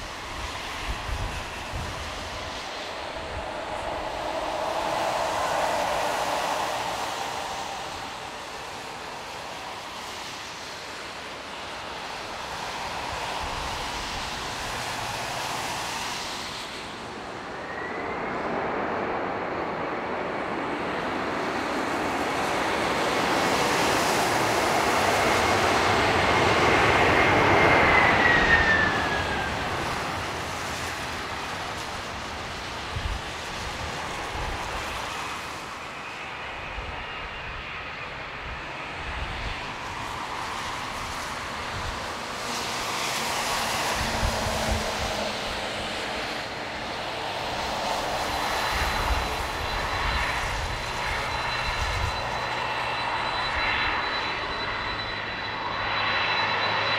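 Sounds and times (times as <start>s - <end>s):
high engine whine: 0.0s - 56.9s
jet engines roaring: 0.0s - 56.9s.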